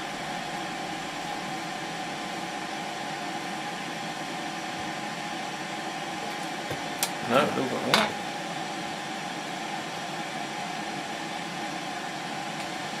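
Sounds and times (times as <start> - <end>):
desoldering station humming: 0.0 - 13.0.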